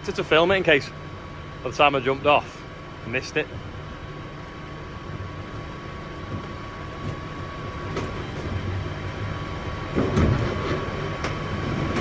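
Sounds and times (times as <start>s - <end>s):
diesel engine idling: 0.0s - 10.2s.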